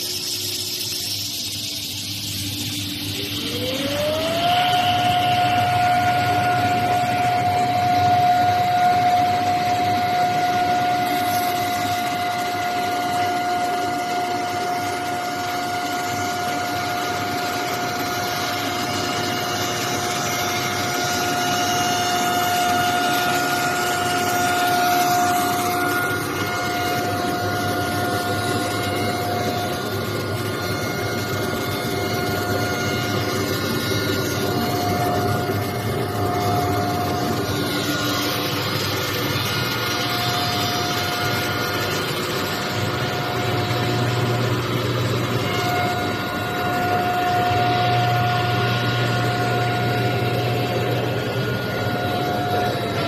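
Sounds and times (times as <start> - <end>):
broad machine noise: 0.0 - 53.0
machine motor whine: 0.0 - 53.0.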